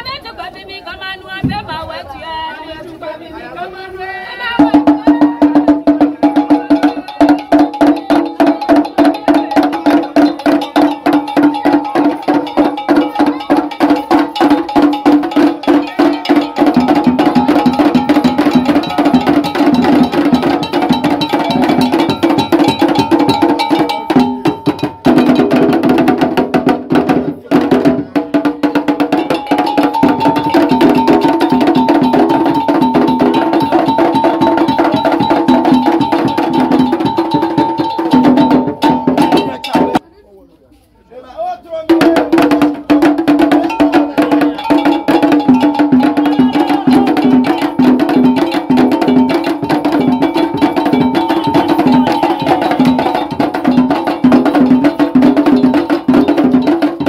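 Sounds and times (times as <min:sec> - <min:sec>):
percussion music with drums: 0:00.0 - 0:02.7, 0:04.3 - 0:40.0, 0:41.8 - 0:57.0.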